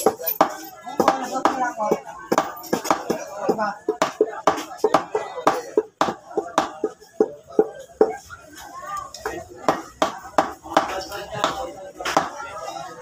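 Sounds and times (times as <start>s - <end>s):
background voices talking: 0.0s - 13.0s.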